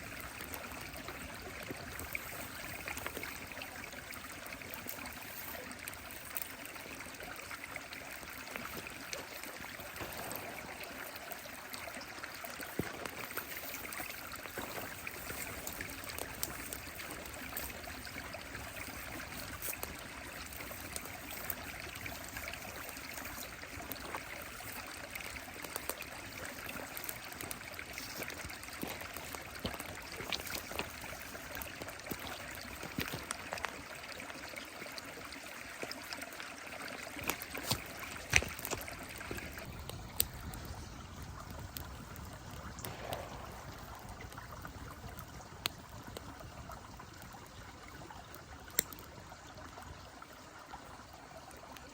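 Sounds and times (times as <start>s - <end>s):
stream trickling: 0.0s - 51.9s
wood fire crackling: 0.0s - 51.9s.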